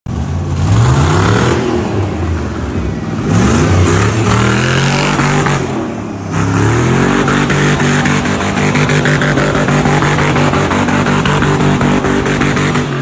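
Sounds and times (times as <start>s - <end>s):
engine revving hard: 0.6s - 2.1s, 3.2s - 13.0s.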